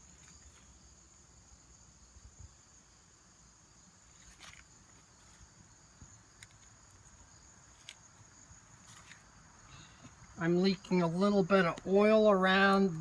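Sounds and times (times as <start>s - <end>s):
faint crickets chirring: 0.0s - 13.0s.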